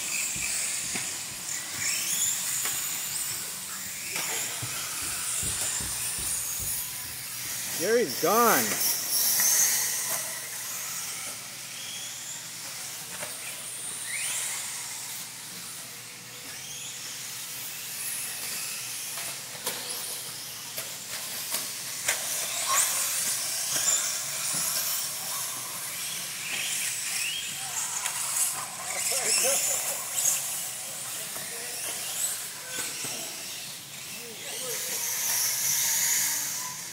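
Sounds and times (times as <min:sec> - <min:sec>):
motor whines rising and falling: 0:00.0 - 0:36.9
rc car motors and tyres hissing: 0:00.0 - 0:36.9.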